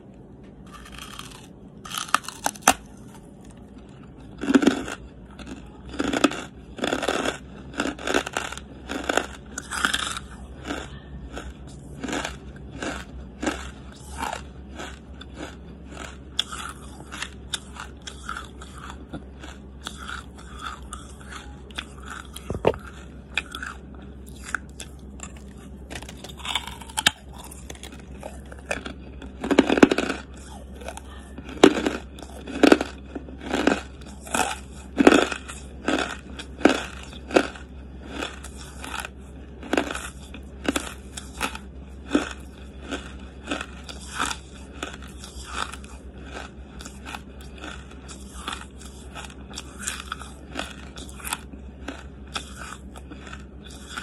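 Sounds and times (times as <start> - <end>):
charcoal being chewed: 0.3 - 54.0.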